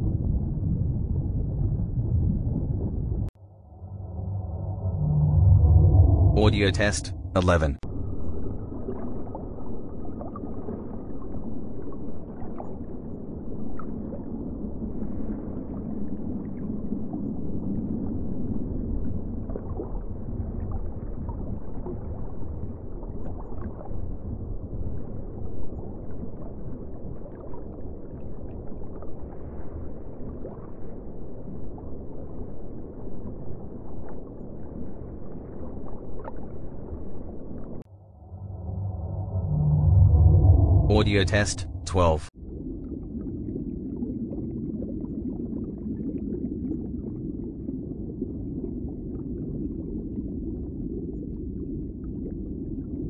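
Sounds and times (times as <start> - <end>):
underwater rumble of moving water: 0.0 - 53.0.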